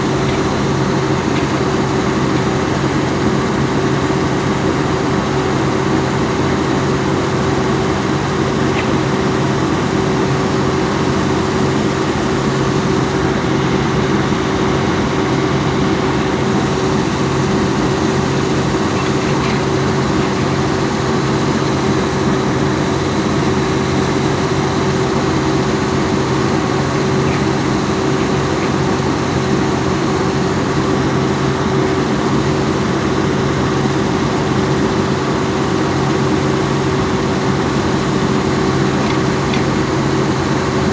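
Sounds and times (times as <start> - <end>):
excavator diesel engine humming: 0.0 - 40.9.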